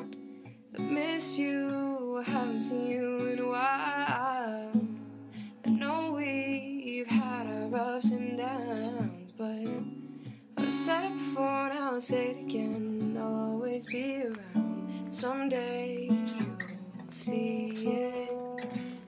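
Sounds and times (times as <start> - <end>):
acoustic guitar song: 0.0 - 19.0.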